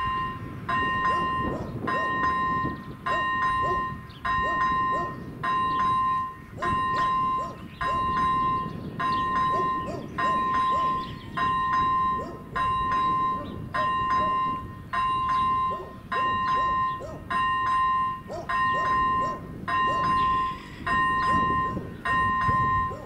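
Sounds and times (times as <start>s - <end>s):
level-crossing warning bell ringing: 0.0s - 23.0s.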